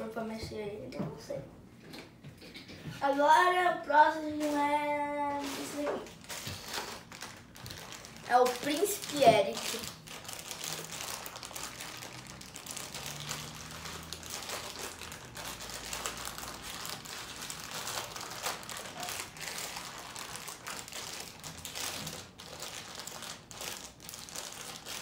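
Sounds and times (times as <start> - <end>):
plastic wrapper crinkling: 4.4 - 25.0.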